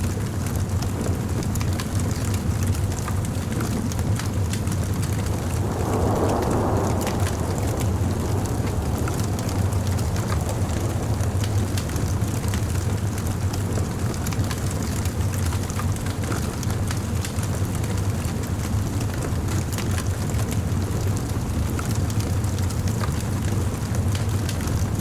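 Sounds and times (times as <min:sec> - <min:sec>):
fire low rumble: 0:00.1 - 0:25.0
bonfire crackling and popping: 0:00.2 - 0:25.0.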